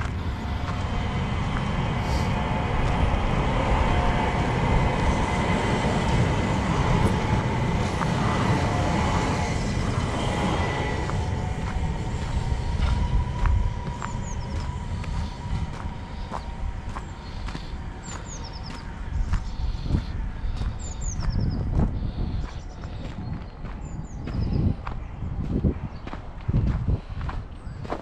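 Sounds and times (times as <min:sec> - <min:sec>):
rail vehicle rumbling: 0:00.0 - 0:28.0.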